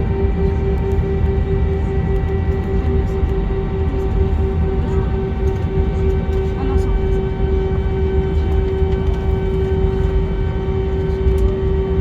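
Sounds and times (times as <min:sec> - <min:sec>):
jet engines heard from cabin: 0:00.0 - 0:12.0.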